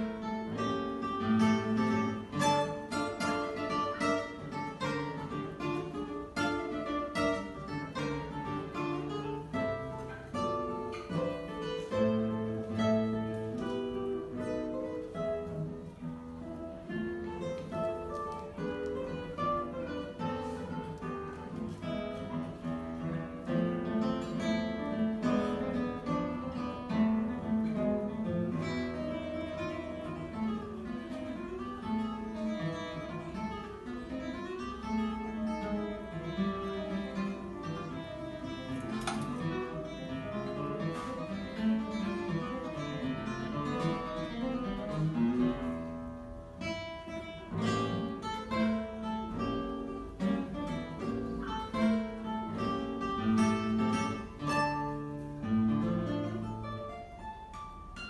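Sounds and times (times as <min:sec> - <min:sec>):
solo classical guitar: 0:00.0 - 0:58.0.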